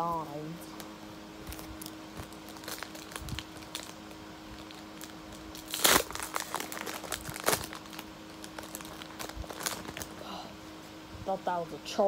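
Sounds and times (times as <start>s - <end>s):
foil wrappers crinkling: 0.7s - 10.4s.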